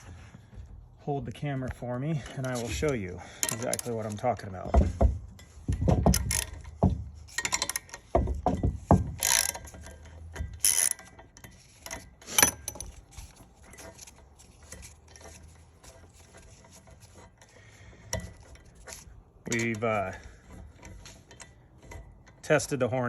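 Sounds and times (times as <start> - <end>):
metal knocks and clinks: 2.3 - 22.8.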